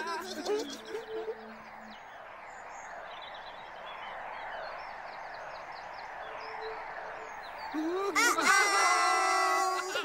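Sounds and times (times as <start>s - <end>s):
bird chirping: 0.0s - 9.7s
steady outdoor hiss: 0.0s - 10.0s.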